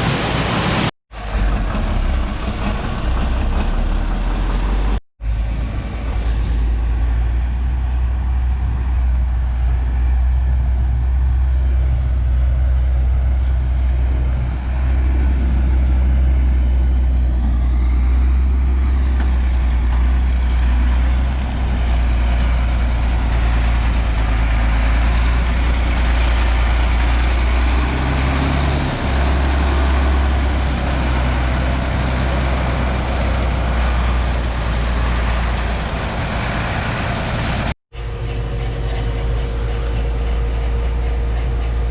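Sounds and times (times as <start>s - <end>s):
diesel engine drone: 0.0s - 41.9s.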